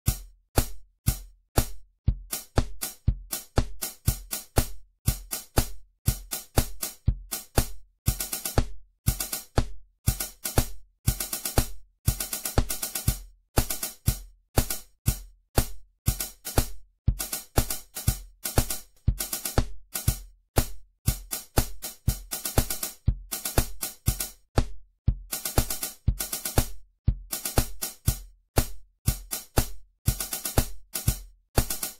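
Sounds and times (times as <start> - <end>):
snare drum strokes: 0.1 - 31.9
steady low beat: 0.1 - 31.9.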